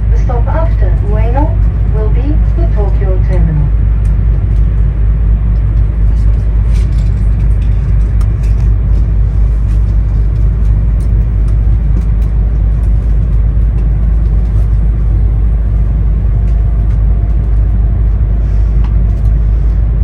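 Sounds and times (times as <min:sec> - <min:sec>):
train rumble inside passenger car: 0:00.0 - 0:20.0.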